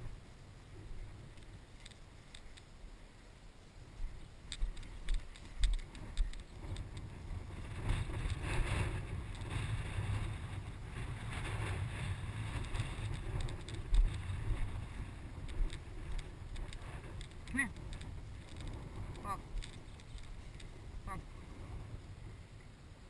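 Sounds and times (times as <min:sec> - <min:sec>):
wind buffeting microphone: 0:03.8 - 0:23.0.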